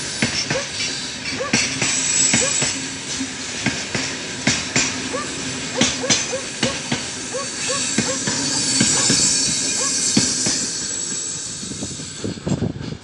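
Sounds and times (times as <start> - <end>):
freight train rolling rumble: 0.0 - 13.0.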